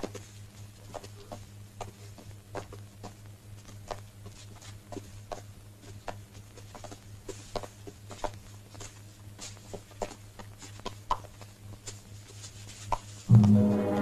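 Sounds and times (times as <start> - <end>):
soft clicks and rustles: 0.0 - 13.3
steady low hum: 0.0 - 14.0.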